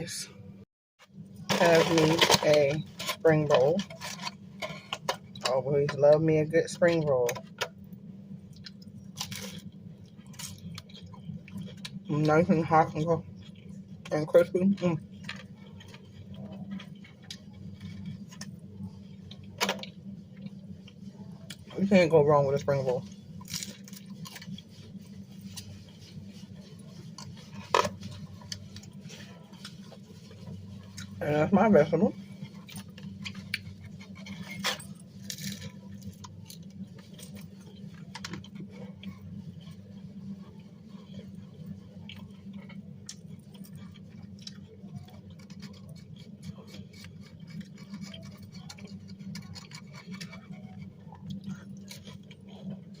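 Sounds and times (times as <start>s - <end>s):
steady low hum: 0.0s - 53.0s
crunching food: 6.7s - 21.8s, 22.4s - 31.2s, 32.1s - 53.0s.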